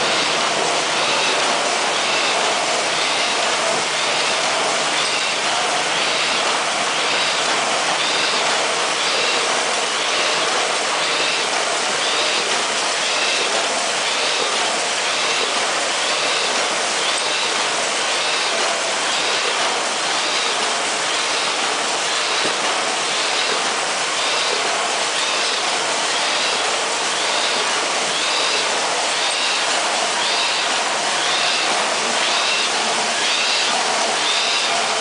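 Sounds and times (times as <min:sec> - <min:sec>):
laminating machine running: 0:00.0 - 0:35.0.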